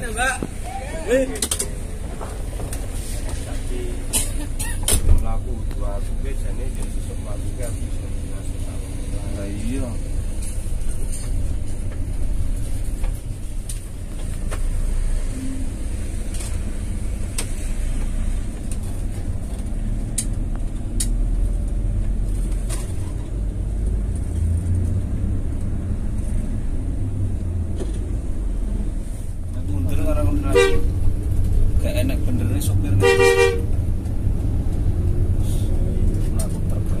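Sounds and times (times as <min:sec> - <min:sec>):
bus engine rumble: 0:00.0 - 0:37.0
road noise: 0:00.0 - 0:37.0.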